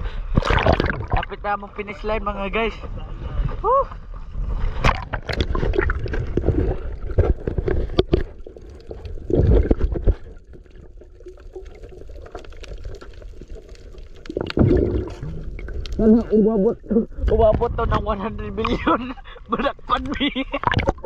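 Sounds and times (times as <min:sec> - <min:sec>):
water splashing and sloshing: 0:00.0 - 0:01.8, 0:03.4 - 0:21.0.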